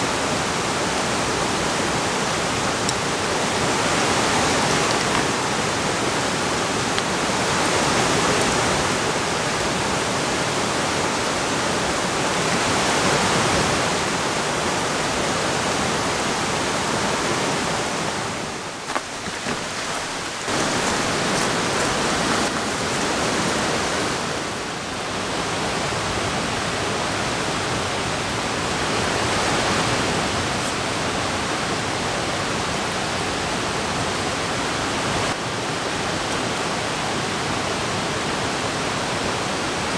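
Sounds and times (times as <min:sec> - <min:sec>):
flowing river water: 0:00.0 - 0:39.9
rain: 0:00.0 - 0:39.9.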